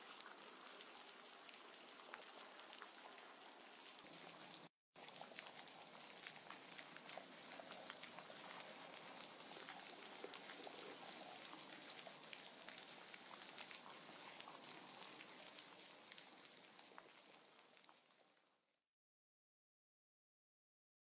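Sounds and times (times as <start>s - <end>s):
faint rain falling: 0.0s - 18.8s.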